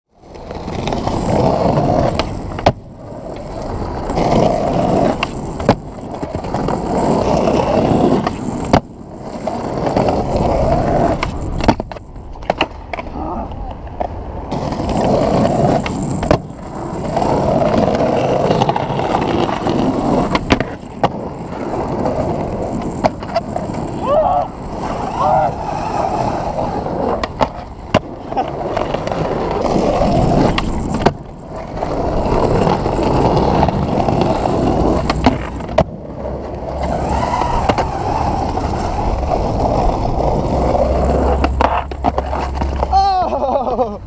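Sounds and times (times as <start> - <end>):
skateboard wheels rolling on asphalt: 0.1 - 44.0
skateboard clacking: 0.2 - 44.0.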